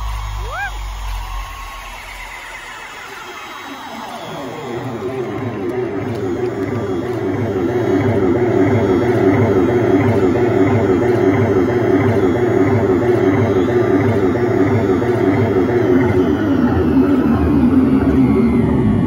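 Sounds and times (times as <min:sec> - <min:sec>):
distorted amplified concert: 0:00.0 - 0:19.0.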